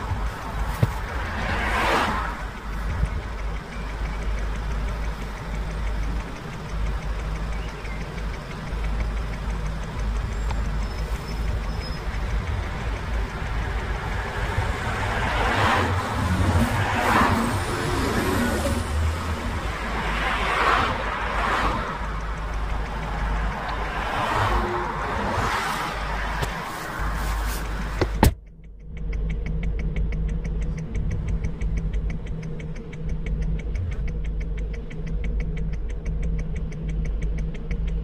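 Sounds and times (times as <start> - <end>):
car cabin rumble: 0.0 - 38.0.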